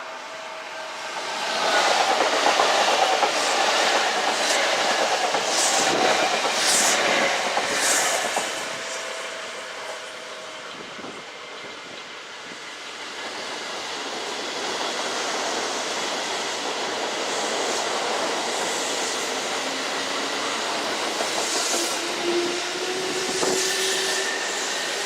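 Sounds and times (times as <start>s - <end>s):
electric train rail noise: 0.0s - 25.0s.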